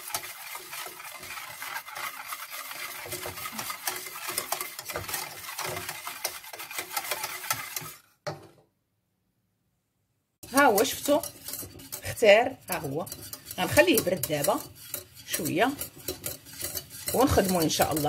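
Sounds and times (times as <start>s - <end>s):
wire whisk scraping a saucepan: 0.0s - 8.2s, 10.4s - 18.0s.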